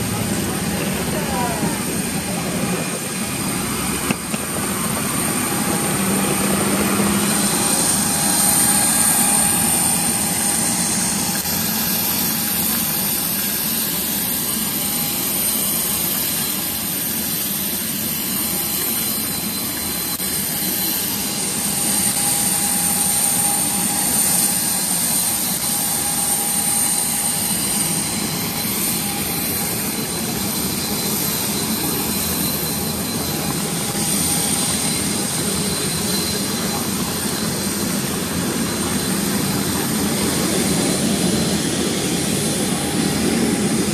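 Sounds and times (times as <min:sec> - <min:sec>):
jet turbine whine and rush: 0:00.0 - 0:43.9.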